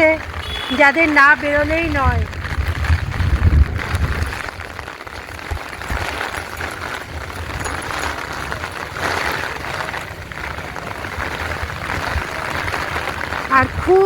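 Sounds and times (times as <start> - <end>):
heavy rain hissing: 0.0 - 14.0
wind buffeting microphone: 0.0 - 14.0.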